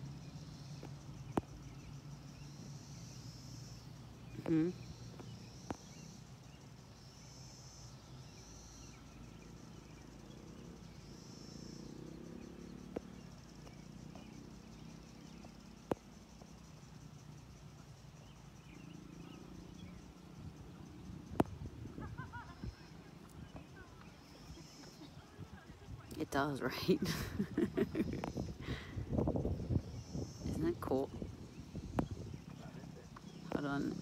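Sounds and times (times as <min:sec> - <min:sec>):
insects buzzing: 0:00.0 - 0:34.0.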